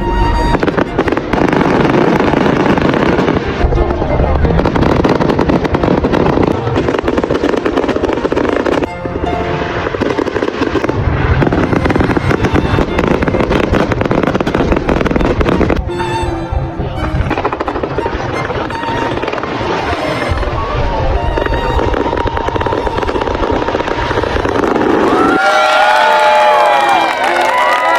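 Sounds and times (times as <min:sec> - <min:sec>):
fireworks bursting and crackling: 0:00.0 - 0:27.9
music playing: 0:00.0 - 0:27.9.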